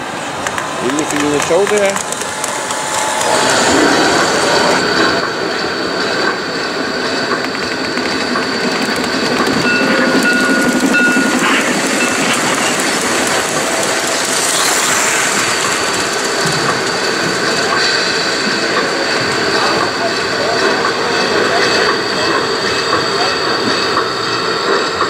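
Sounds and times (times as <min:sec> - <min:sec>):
model train wheels clicking on rails: 0:00.0 - 0:05.3, 0:06.0 - 0:25.0.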